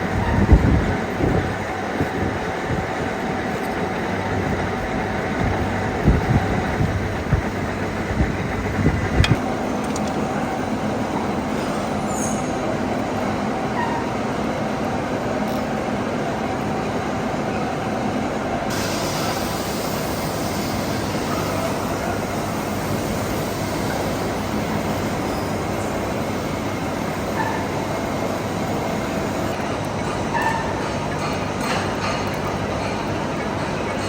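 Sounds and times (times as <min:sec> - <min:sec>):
machine-shop machinery running: 0:00.0 - 0:34.0.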